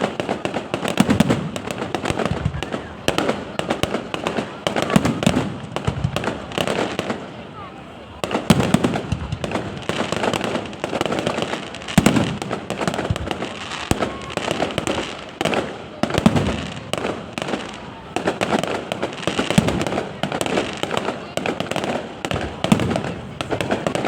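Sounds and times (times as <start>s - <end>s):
fireworks bangs: 0.0s - 24.0s
fireworks crackling: 0.0s - 24.0s.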